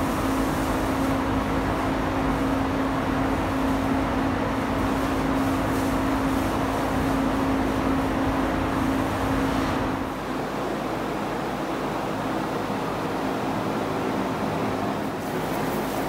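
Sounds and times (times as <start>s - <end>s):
steady hum: 0.0s - 16.0s
ventilation rushing: 0.0s - 16.0s.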